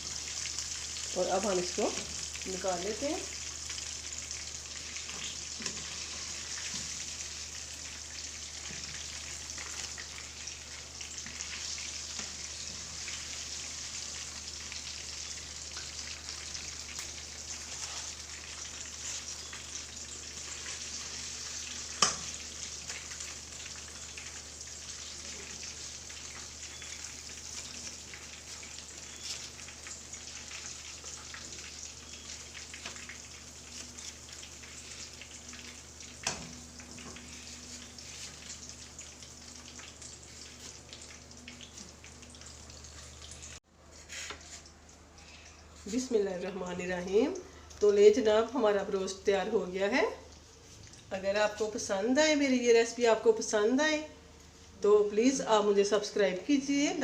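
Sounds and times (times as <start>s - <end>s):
chicken frying in hot oil: 0.0s - 43.6s, 47.0s - 57.0s.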